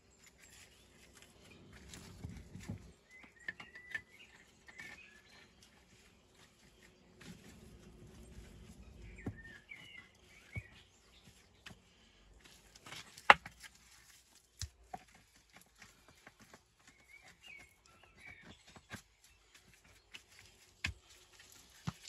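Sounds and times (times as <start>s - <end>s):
bird chirping: 0.0s - 12.3s, 15.9s - 22.0s.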